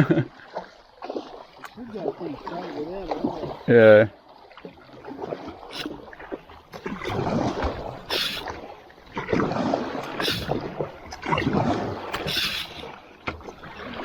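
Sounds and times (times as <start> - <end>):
paddle splashing in water: 0.0 - 14.0
water rushing: 0.0 - 14.0.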